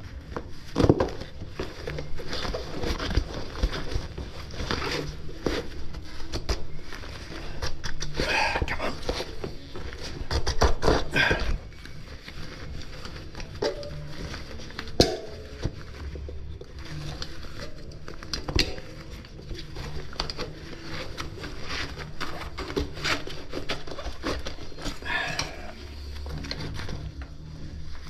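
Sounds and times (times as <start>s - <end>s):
bike tyre handling noises: 0.0s - 28.0s.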